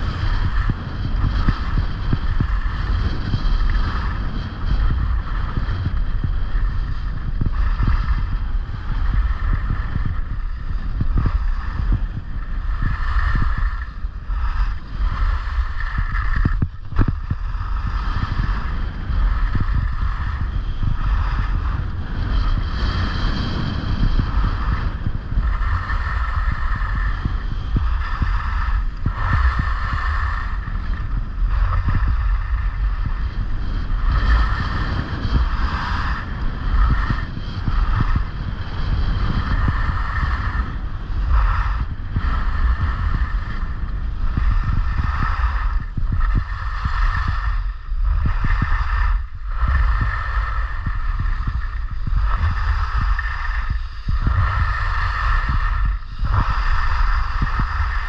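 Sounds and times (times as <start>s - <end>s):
skis carving on snow: 0.0s - 58.0s
wind buffeting microphone: 0.0s - 58.0s.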